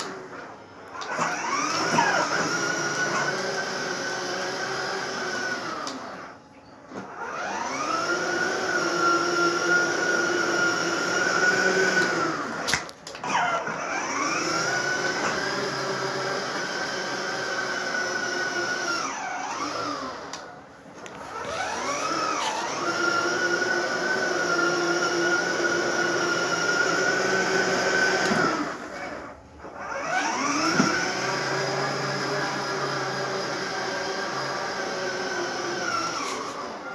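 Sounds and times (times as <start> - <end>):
toy car electric motor whining: 1.0 - 6.4, 7.0 - 12.6, 13.2 - 20.4, 21.2 - 36.8.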